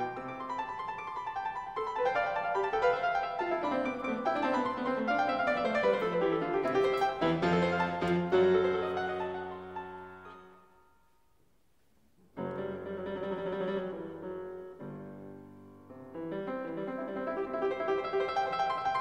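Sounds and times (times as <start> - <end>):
background piano music: 0.0 - 11.1, 12.4 - 19.0.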